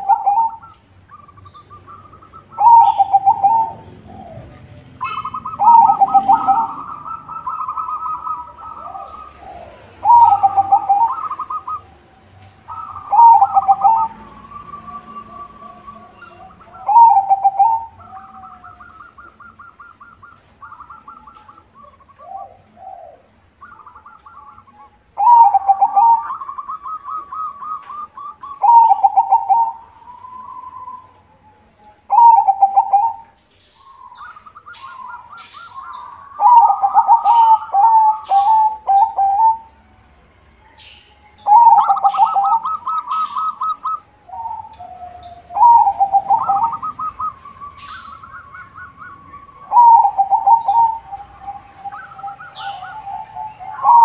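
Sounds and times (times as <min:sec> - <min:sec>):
dove cooing song: 0:00.0 - 0:39.9, 0:40.6 - 0:54.0.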